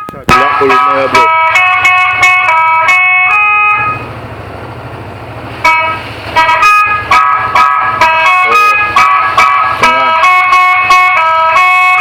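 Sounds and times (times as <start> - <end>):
electric horn jingle from speaker: 0.0 - 4.1, 5.6 - 12.0.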